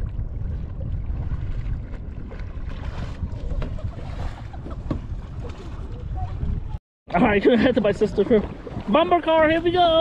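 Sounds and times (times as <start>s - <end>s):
water splashing and lapping: 0.0s - 10.0s
wind rumbling on microphone: 0.0s - 10.0s.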